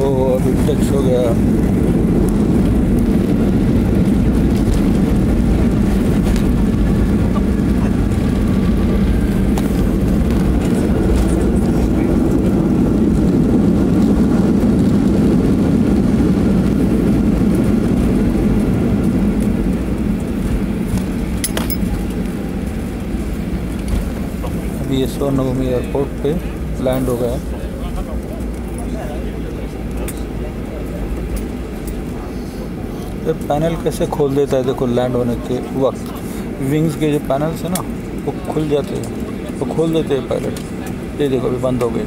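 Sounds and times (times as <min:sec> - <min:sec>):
aircraft engines and wheels rumbling: 0:00.0 - 0:42.0.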